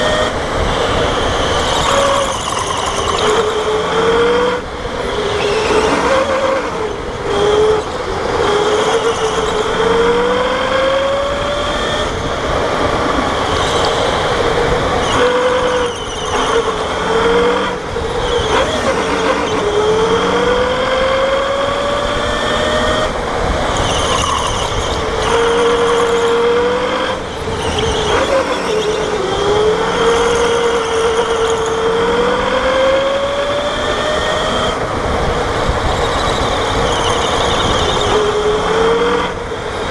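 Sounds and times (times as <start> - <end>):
electric go-kart motor whining: 0.0 - 39.9.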